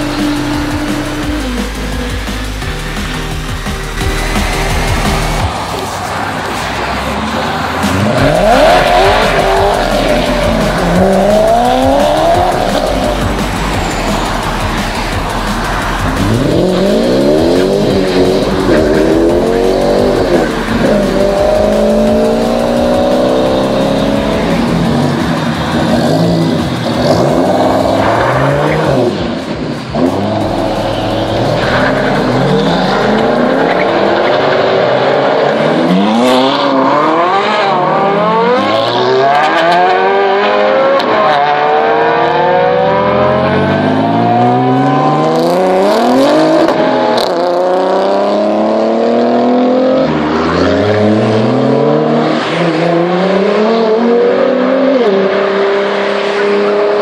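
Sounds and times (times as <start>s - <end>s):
sports car engines revving: 0.0s - 57.0s.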